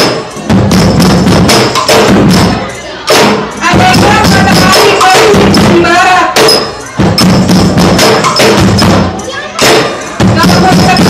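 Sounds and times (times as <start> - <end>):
group drumming: 0.0 - 11.0.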